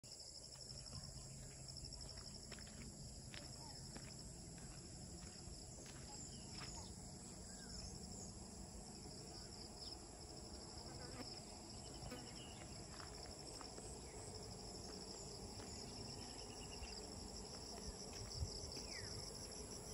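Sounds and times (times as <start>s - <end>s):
crickets trilling: 0.1s - 19.9s.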